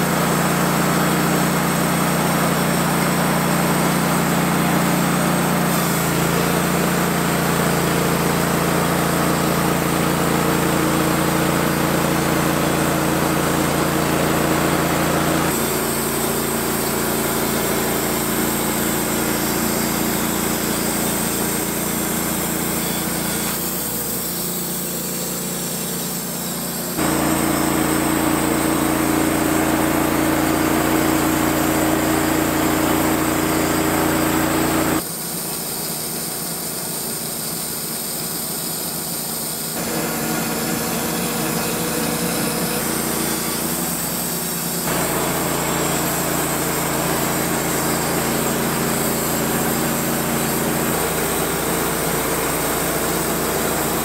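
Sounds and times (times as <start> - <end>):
band sawmill cutting log: 0.0 - 54.0.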